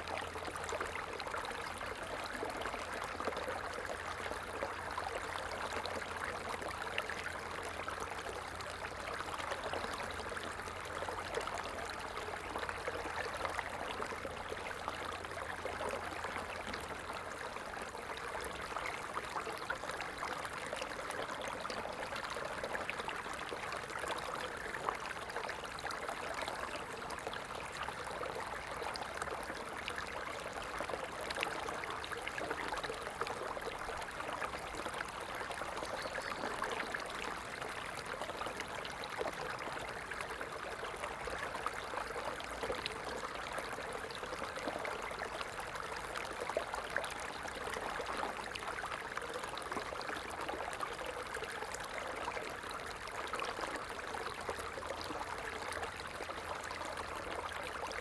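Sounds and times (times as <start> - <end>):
stream water flowing over stones: 0.0 - 58.0.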